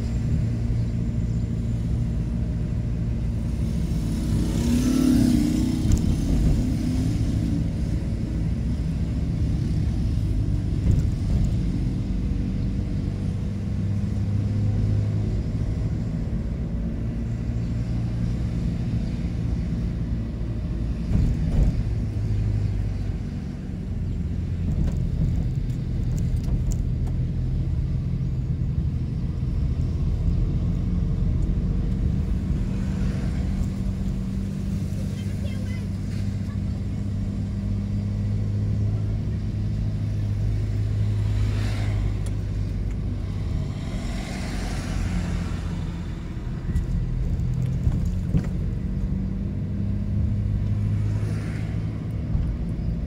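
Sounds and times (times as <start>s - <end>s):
car engine and tyre drone: 0.0s - 53.0s.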